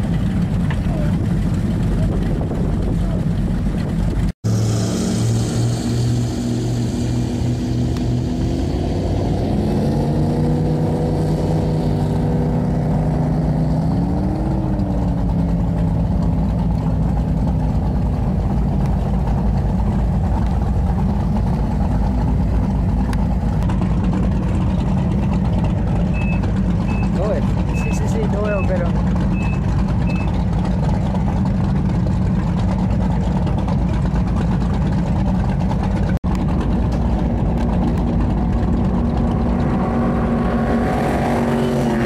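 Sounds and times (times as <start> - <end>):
powerboat engines throttling up: 0.0 - 42.0
rush of wind and water: 0.0 - 42.0.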